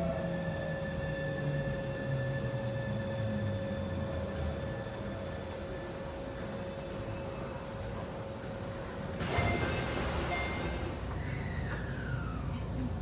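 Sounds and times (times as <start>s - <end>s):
electric train running noise: 0.2s - 12.6s.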